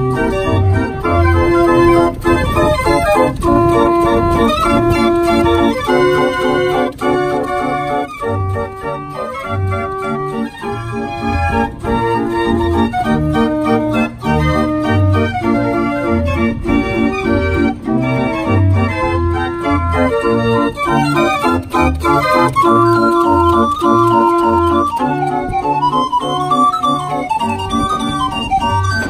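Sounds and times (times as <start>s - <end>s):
street organ playing: 0.0s - 29.0s.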